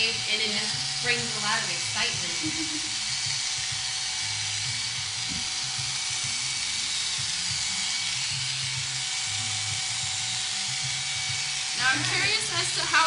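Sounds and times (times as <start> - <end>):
electric hair clippers running: 0.0 - 13.0.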